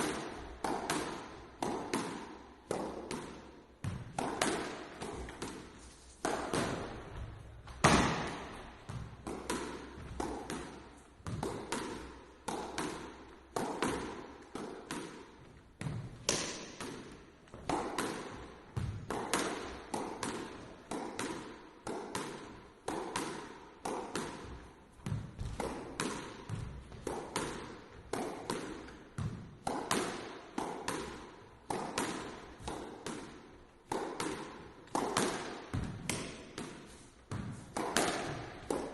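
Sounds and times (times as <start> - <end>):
squash ball smacks: 0.0 - 38.9.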